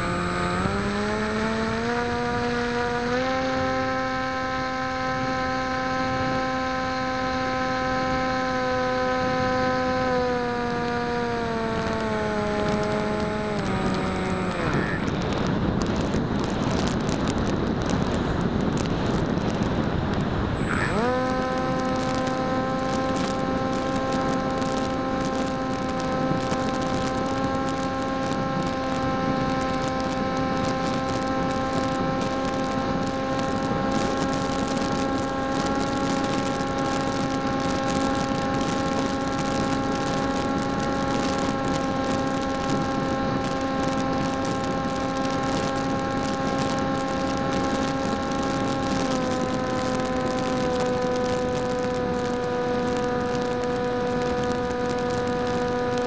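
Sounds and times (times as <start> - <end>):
electric motor propeller whine: 0.0 - 17.5, 20.3 - 56.0.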